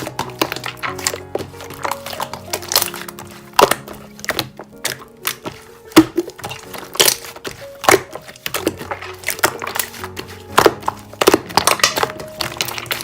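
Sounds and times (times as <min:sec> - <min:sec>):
background music with held notes: 0:00.0 - 0:13.0
slime squeezed with sticky pops: 0:00.0 - 0:13.0.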